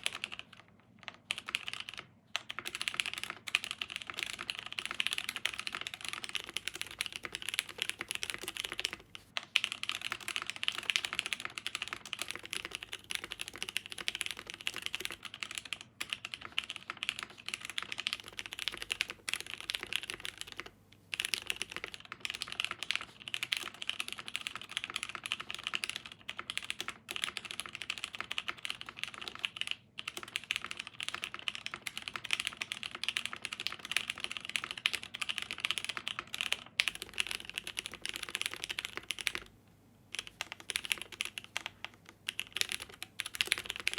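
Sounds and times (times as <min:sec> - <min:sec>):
fast mechanical keyboard typing: 0:00.0 - 0:39.5, 0:40.1 - 0:43.9.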